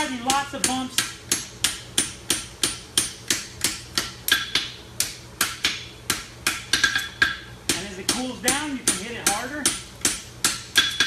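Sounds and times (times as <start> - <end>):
hammer striking horseshoe on anvil: 0.0 - 11.0.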